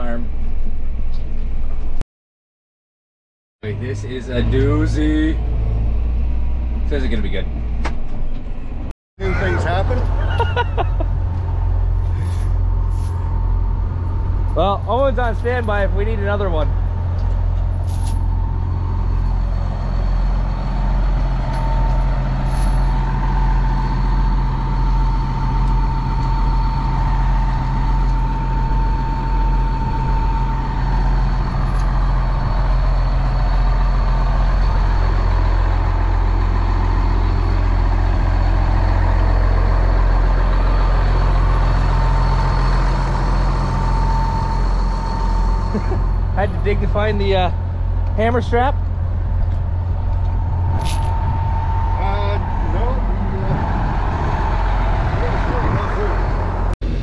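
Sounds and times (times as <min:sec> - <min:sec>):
bulldozer diesel engine rumbling: 0:03.6 - 0:57.0
thin steady whine: 0:09.3 - 0:57.0.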